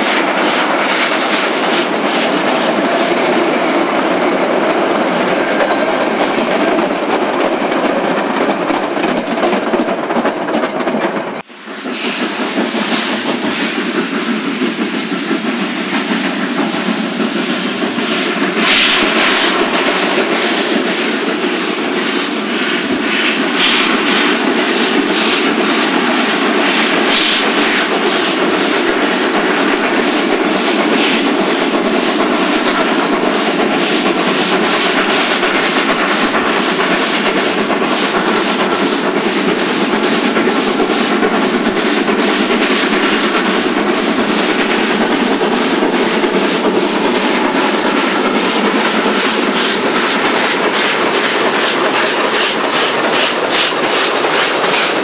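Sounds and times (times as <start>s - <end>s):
steam locomotive exhaust beats: 0.0s - 55.0s
train running noise: 0.0s - 55.0s.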